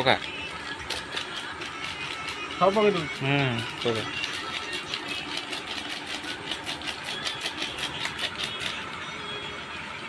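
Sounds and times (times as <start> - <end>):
hand mixing chicken in bowl: 0.0 - 8.9.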